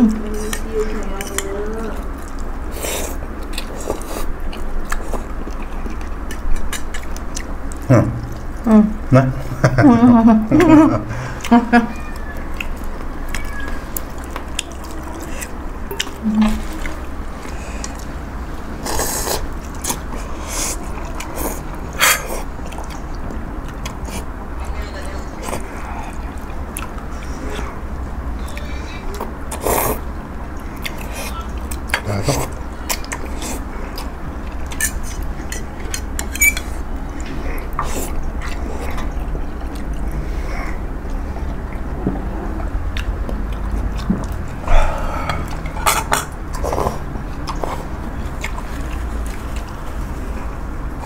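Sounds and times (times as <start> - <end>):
steady low hum: 0.0 - 51.0
chewing: 0.3 - 8.7, 11.2 - 51.0.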